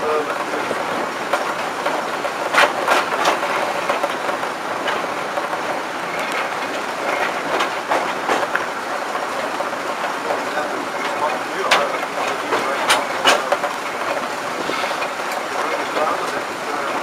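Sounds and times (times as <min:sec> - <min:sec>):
diesel locomotive running: 0:00.0 - 0:17.0
wheel clicks over rail joints: 0:00.0 - 0:17.0.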